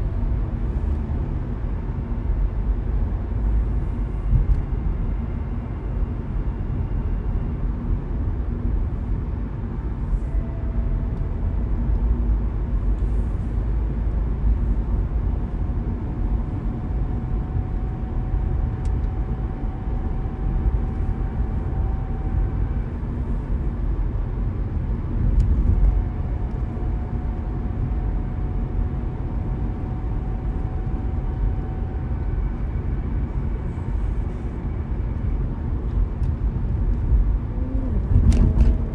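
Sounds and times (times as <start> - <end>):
car driving along a road: 0.0 - 38.9.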